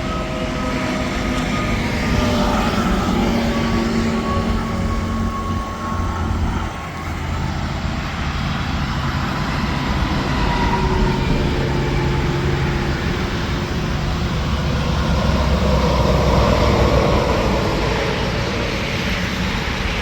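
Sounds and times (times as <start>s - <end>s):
diesel engine hum: 0.0s - 20.0s.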